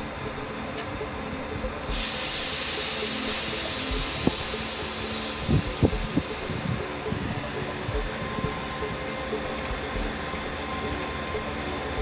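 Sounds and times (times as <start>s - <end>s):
train rumbling on tracks: 0.0s - 12.0s
steady hiss: 1.8s - 12.0s.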